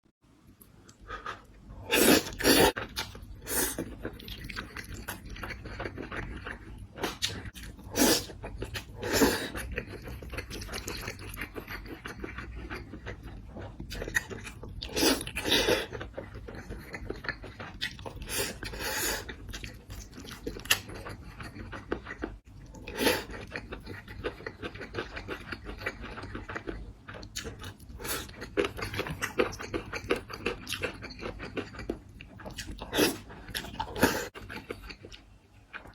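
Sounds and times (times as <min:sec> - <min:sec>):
crunchy food chewing: 0:03.8 - 0:35.9.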